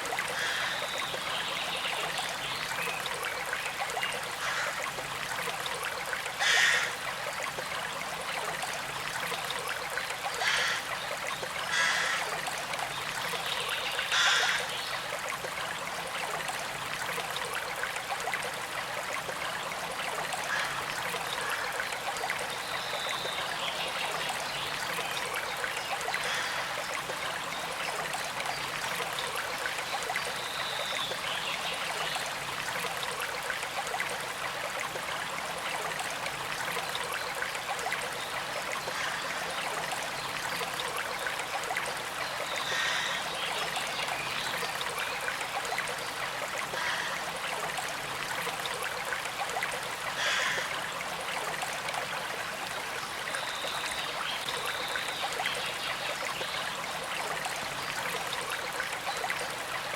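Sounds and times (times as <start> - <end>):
creek trickling over stones: 0.0 - 59.9.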